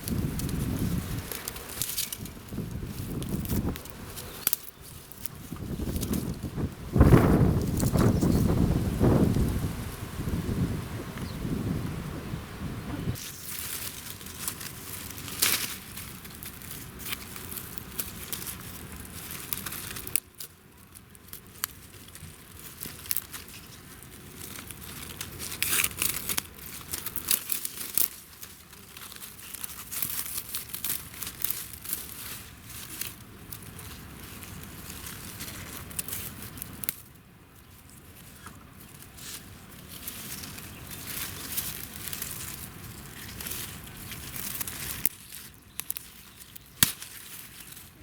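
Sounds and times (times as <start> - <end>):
dry plant material crackling: 0.0 - 48.0.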